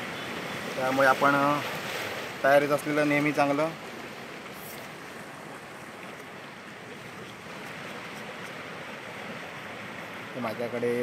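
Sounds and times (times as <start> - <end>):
sea surf: 0.0 - 11.0
wind: 0.0 - 11.0.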